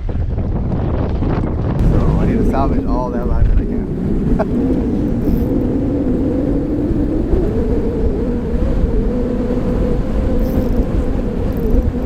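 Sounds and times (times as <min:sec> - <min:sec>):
wind buffeting microphone: 0:00.0 - 0:12.0
motor drone: 0:01.8 - 0:12.0.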